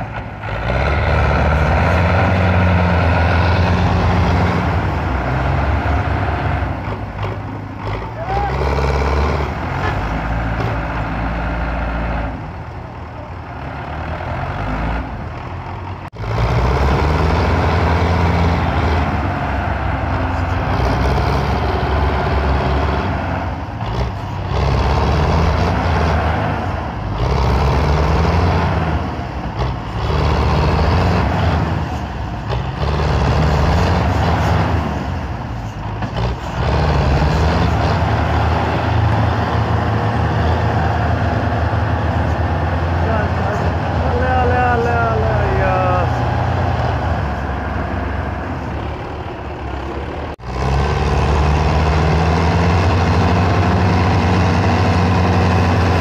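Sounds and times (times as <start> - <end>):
tractor diesel engine labouring: 0.0 - 56.0.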